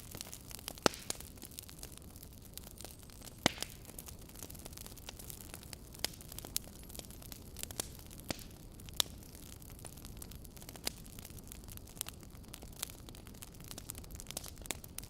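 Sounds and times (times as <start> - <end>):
fire hiss and rumble: 0.0 - 15.0
wood fire crackling and popping: 0.0 - 15.0.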